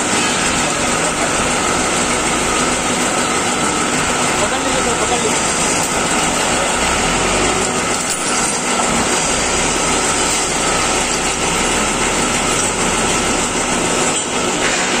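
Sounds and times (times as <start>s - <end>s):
pipe bending machine running: 0.0s - 15.0s.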